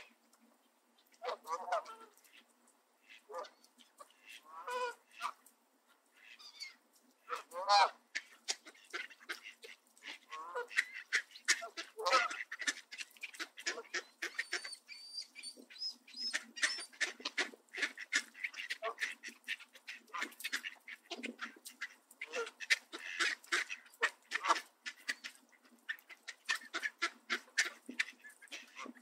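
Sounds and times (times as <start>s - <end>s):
ducks quacking: 1.1s - 29.0s
geese honking: 1.2s - 2.4s, 3.0s - 5.4s, 6.2s - 14.8s, 16.2s - 29.0s.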